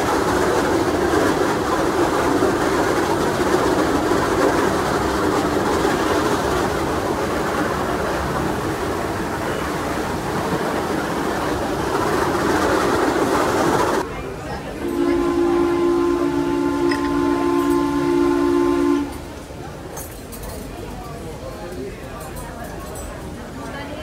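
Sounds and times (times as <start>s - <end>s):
paddle wheels churning water: 0.0s - 24.0s
water rushing along hull: 0.0s - 24.0s.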